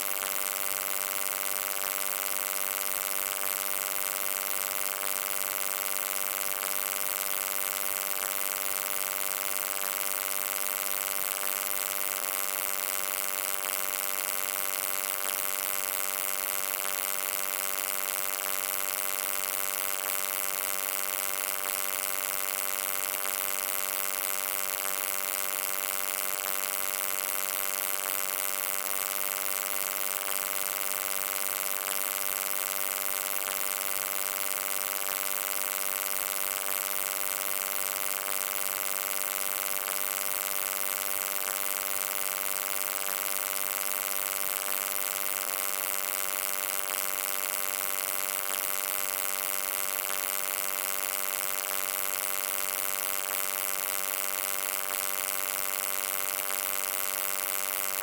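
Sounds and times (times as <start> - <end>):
steady electric hum: 0.0 - 58.0.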